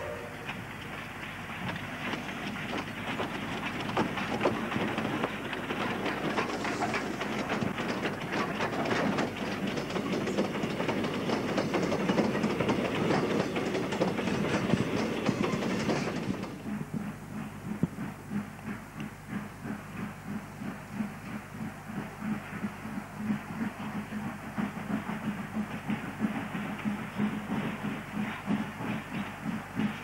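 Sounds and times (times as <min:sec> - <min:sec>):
clatter of train wheels and wagons: 0:00.0 - 0:30.0
steam locomotive exhaust beats: 0:00.0 - 0:30.0.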